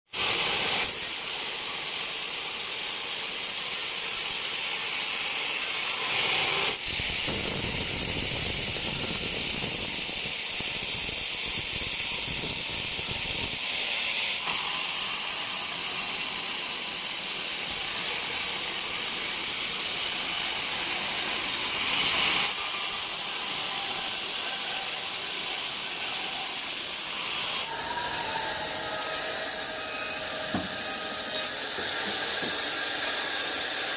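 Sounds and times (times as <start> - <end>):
band saw blade hissing and whining: 0.2 - 33.9.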